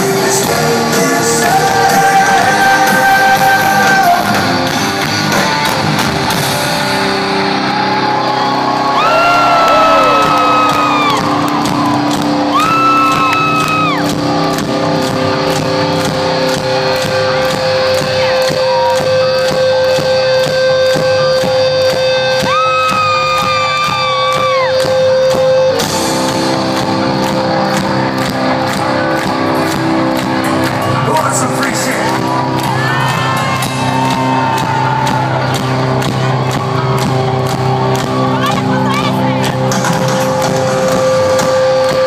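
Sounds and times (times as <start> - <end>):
drums beating: 0.0 - 42.0
electric guitars: 0.0 - 42.0.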